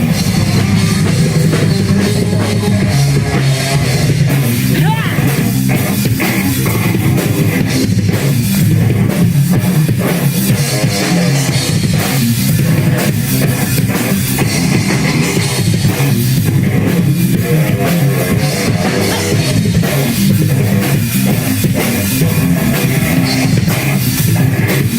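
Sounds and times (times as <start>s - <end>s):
electric guitars: 0.0s - 24.9s
pounding drum kit: 0.0s - 24.9s
rock band playing live: 0.0s - 24.9s.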